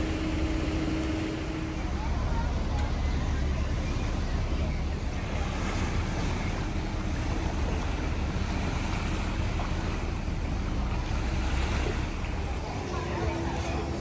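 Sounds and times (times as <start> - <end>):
even wash of noise: 0.0 - 14.0
low rumble: 0.0 - 14.0.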